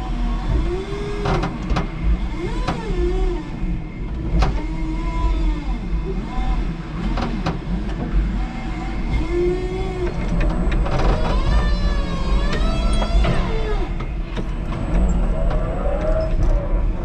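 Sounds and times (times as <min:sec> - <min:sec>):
forklift motor hum: 0:00.0 - 0:17.0
wavering motor whines: 0:00.0 - 0:17.0.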